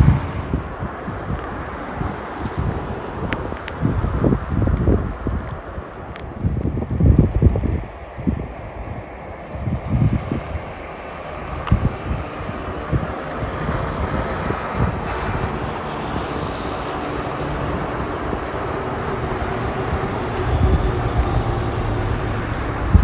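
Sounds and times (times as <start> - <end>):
wind thumps on microphone: 0.0 - 16.7, 19.2 - 23.0
steady rumble: 0.0 - 23.0.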